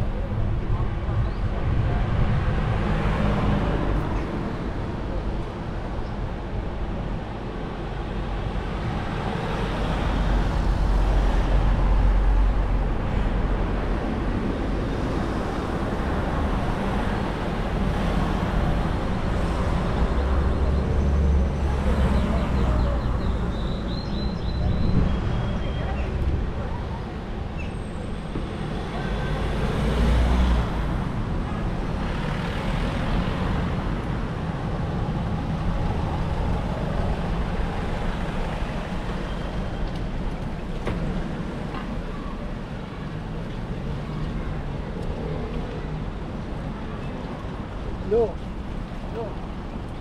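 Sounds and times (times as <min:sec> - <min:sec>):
vehicles passing: 0:00.0 - 0:50.0.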